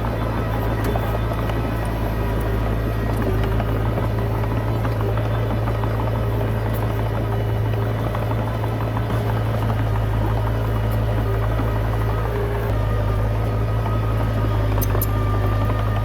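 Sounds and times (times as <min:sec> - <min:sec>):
bulldozer diesel engine droning: 0:00.0 - 0:16.0
light engine clatter: 0:00.0 - 0:16.0.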